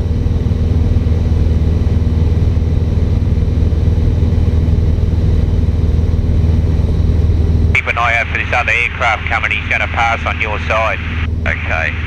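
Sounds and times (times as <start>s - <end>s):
airplane engine drone in cabin: 0.0s - 12.0s.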